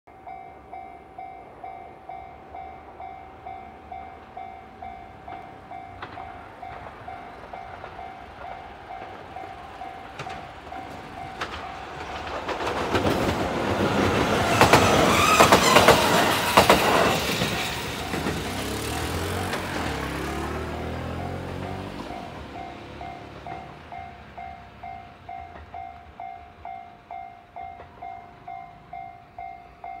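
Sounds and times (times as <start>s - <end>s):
level crossing warning bell ringing: 0.1s - 12.3s, 17.1s - 30.0s
train rumble: 0.2s - 30.0s.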